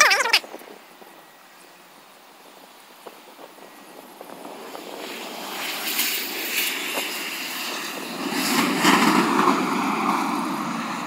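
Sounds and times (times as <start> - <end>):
jet engines at high power: 0.0 - 11.0.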